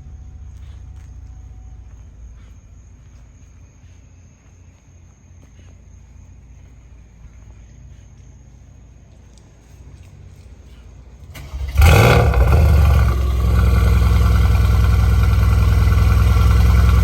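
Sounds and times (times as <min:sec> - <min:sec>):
crickets trilling: 0:00.0 - 0:17.0
low steady rumble: 0:00.0 - 0:17.0.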